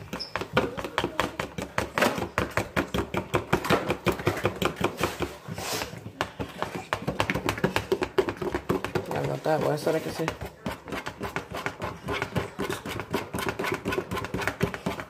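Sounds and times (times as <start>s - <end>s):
fork beating batter in a bowl: 0.0s - 15.0s.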